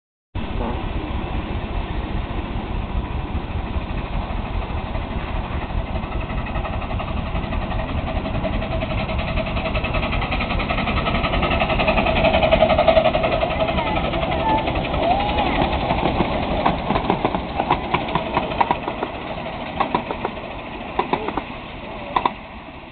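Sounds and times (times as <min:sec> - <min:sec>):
low rumble: 0:00.4 - 0:22.9
miniature locomotive exhaust beat: 0:00.6 - 0:22.9.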